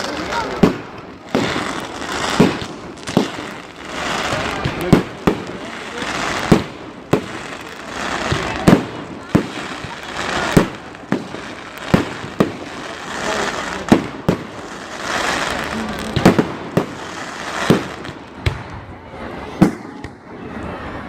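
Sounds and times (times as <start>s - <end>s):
firework crackling hiss: 0.0s - 18.4s.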